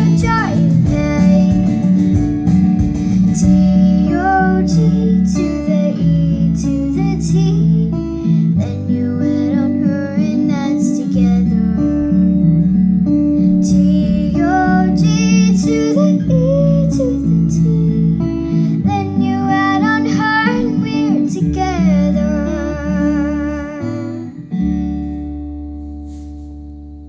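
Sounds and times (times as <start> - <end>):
woman singing: 0.0 - 12.7, 13.4 - 24.4
strummed acoustic guitar: 0.0 - 27.0
sustained bass notes: 0.0 - 27.0.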